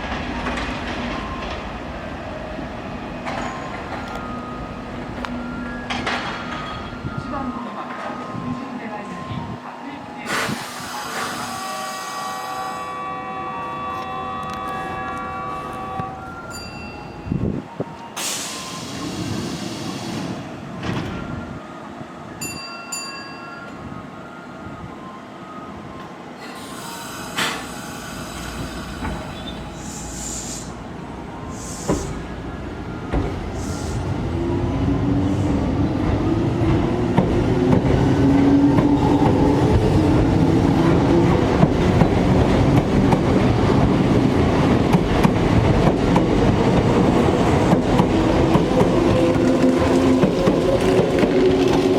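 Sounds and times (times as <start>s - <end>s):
electric train on rails: 0.0s - 51.9s
train whine: 0.0s - 51.9s.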